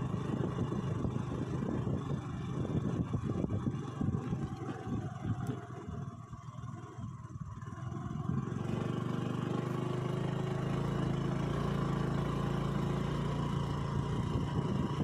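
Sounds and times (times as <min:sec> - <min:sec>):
scooter engine under load: 0:00.0 - 0:15.0.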